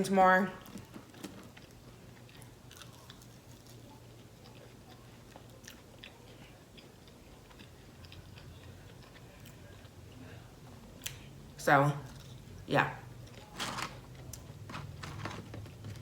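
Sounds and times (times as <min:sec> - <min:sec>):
person chewing food: 0:00.6 - 0:11.4, 0:13.2 - 0:16.0.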